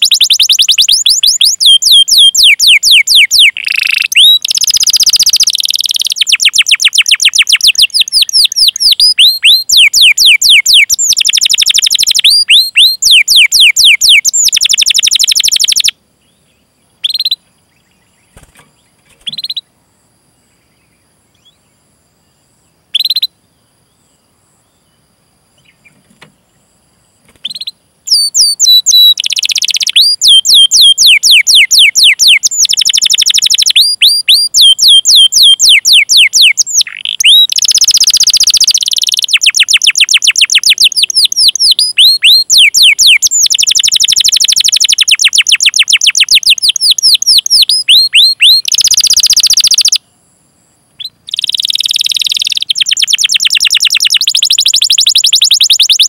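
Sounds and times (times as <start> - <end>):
canary singing: 0.0 - 19.7, 22.9 - 23.4, 27.3 - 50.0, 51.0 - 56.0.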